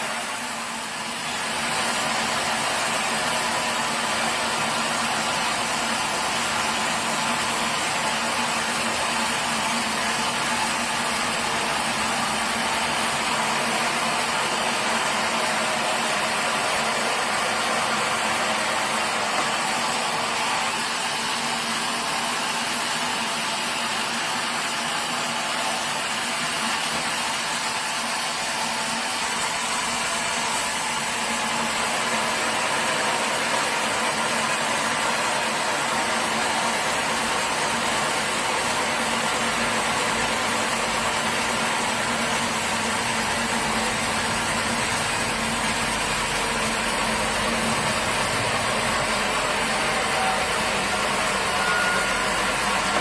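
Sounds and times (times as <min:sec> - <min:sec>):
sawmill machinery running: 0:00.0 - 0:53.0.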